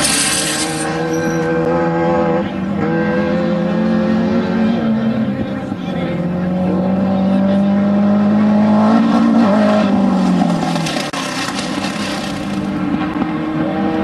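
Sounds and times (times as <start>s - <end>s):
engine running hard: 0.0s - 14.0s.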